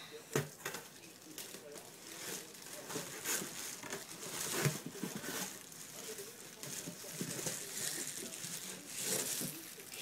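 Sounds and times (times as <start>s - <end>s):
plastic wrapping crinkling: 0.6s - 10.0s.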